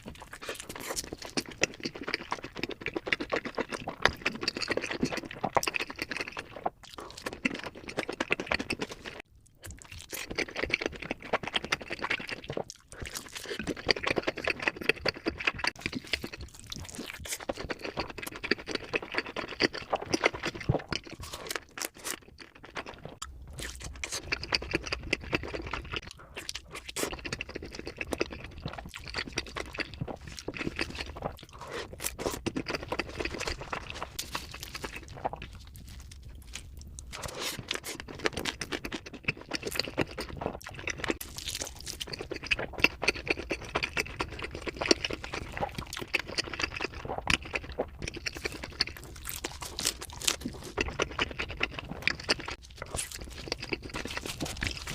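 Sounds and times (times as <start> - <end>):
chewing pizza crunching: 0.0 - 54.9.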